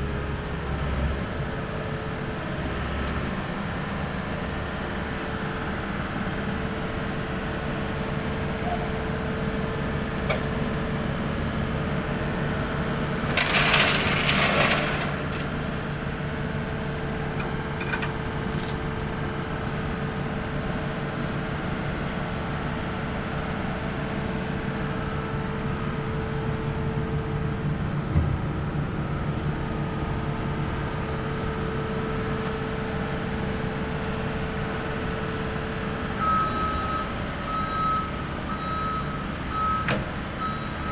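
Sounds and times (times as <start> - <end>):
engine running with whine: 0.0 - 40.9.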